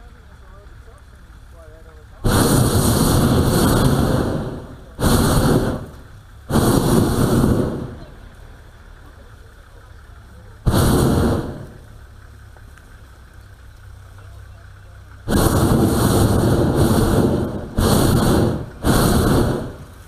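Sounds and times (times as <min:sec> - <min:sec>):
propane burner blasts: 0:00.0 - 0:20.0.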